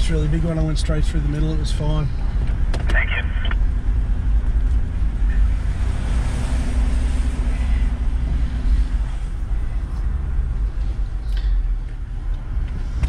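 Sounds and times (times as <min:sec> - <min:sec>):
engine and drivetrain rumble: 0:00.0 - 0:13.0.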